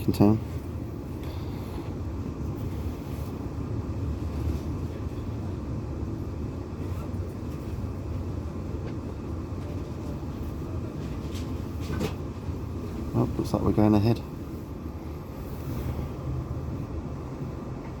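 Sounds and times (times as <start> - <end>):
train carriage equipment rumble: 0.0 - 18.0.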